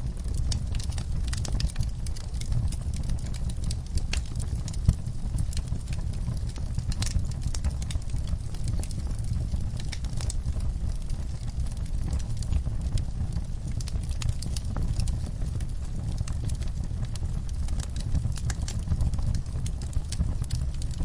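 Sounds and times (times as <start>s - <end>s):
fire crackling and popping: 0.0s - 21.0s
low rumble of fire: 0.0s - 21.0s.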